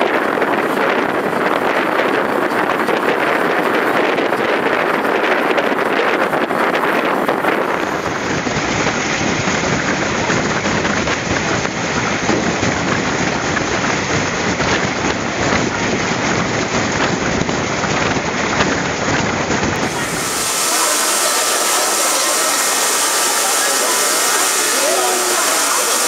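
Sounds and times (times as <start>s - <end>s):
wind buffeting microphone: 0.0s - 24.7s
train rumbling on rails: 0.0s - 26.0s.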